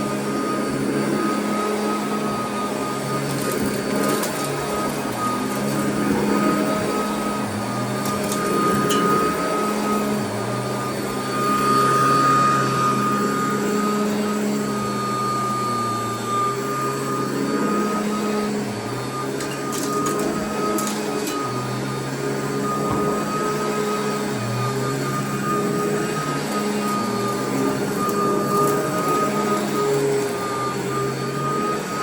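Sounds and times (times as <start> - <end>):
vacuum cleaner running on carpet: 0.0 - 32.0.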